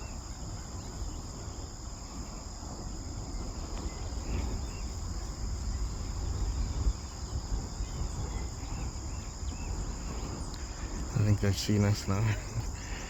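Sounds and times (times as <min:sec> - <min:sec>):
insect chorus: 0:00.0 - 0:13.0
low wind rumble: 0:00.0 - 0:13.0.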